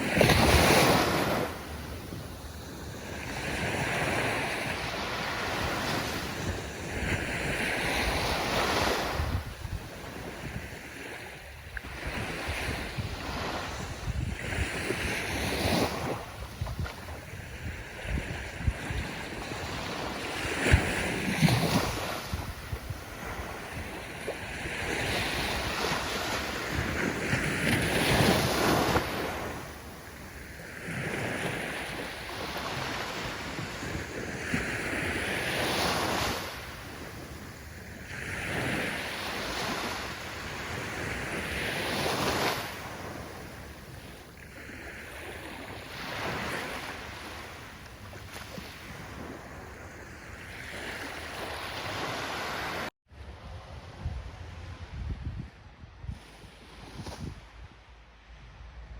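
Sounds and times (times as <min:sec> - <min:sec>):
ocean waves breaking: 0:00.0 - 0:54.8.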